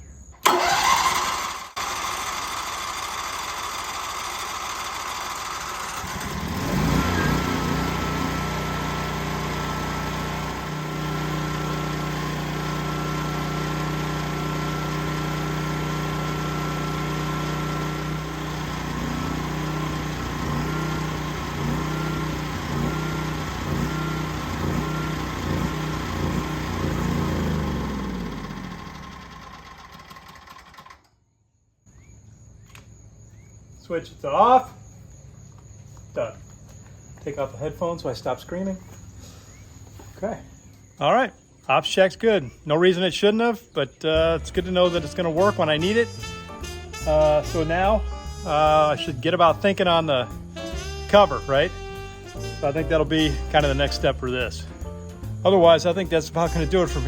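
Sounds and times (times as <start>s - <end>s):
generator engine starting and running: 0.4s - 31.3s, 37.3s - 57.0s.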